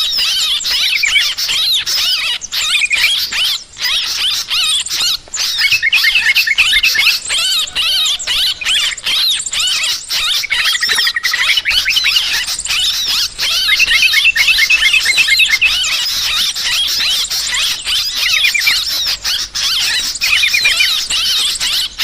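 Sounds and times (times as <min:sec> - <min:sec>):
flock of birds chirping: 0:00.0 - 0:22.0
high bird trills: 0:00.0 - 0:22.0.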